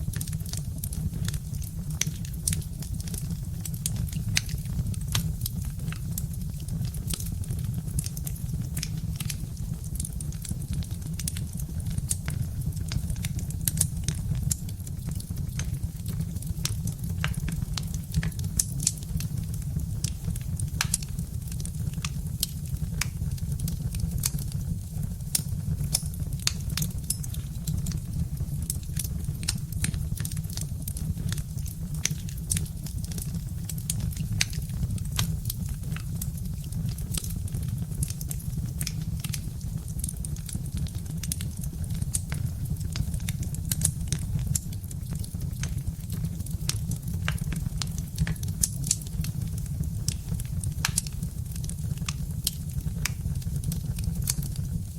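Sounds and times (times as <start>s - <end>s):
fire crackling and popping: 0.0s - 54.9s
low fire rumble: 0.0s - 54.9s.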